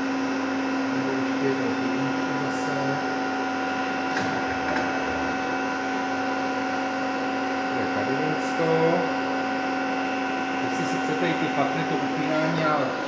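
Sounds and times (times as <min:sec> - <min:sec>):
lathe humming: 0:00.0 - 0:13.0.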